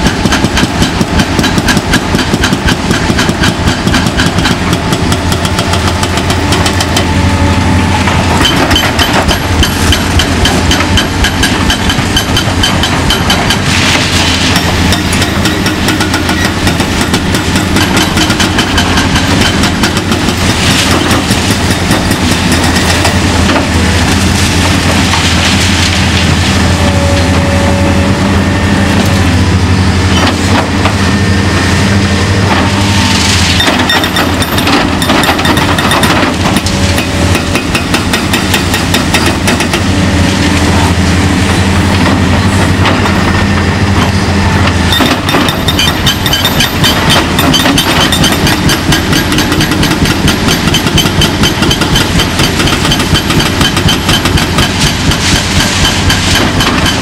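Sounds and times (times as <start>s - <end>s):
hydraulic hammer pounding concrete: 0.0s - 7.2s, 8.0s - 26.4s, 33.4s - 40.8s, 41.5s - 57.0s
diesel engine drone: 0.0s - 57.0s.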